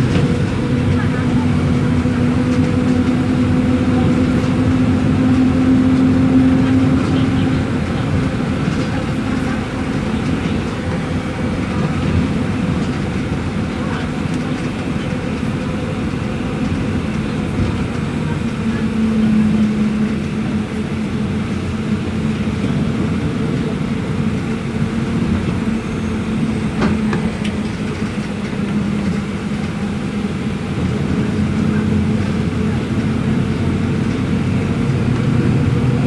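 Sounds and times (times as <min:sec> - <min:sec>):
bus diesel engine droning: 0:00.0 - 0:36.0.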